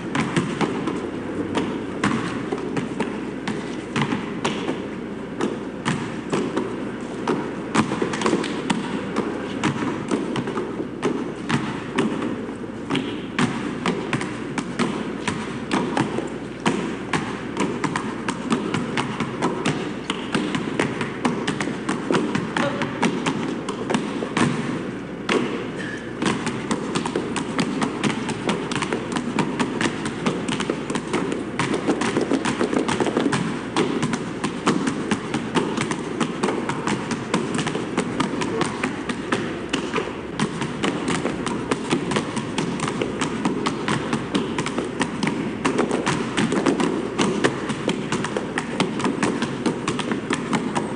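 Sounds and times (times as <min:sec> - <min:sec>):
basketballs bouncing on pavement: 0:00.0 - 0:50.9.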